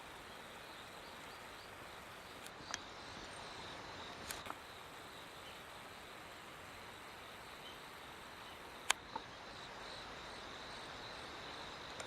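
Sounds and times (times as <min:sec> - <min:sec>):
faint outdoor hiss: 0:00.0 - 0:12.0
insects chirring: 0:00.0 - 0:12.0.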